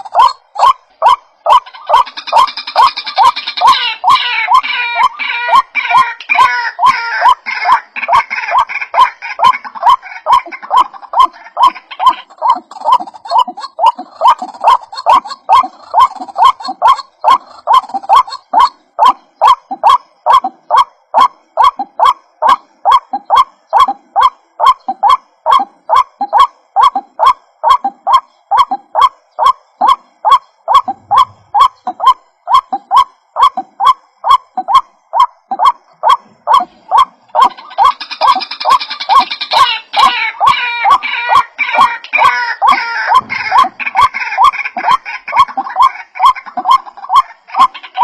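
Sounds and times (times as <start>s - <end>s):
waterhen croaking call: 0.0s - 48.0s.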